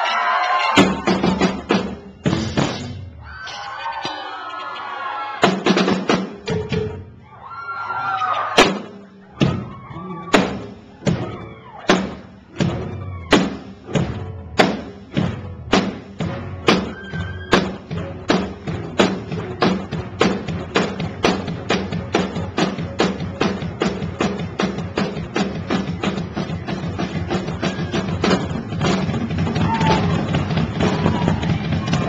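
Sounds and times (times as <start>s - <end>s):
drum kit beat with kick and snare: 0.7s - 4.2s, 5.4s - 7.2s, 8.5s - 32.0s.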